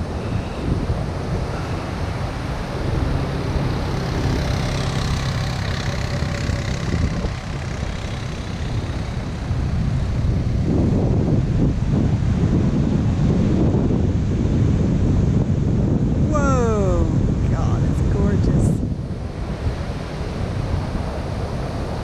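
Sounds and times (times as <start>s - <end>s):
atv engine running: 0.0s - 22.0s
heavy surf: 0.0s - 22.0s
wind on microphone: 0.0s - 22.0s.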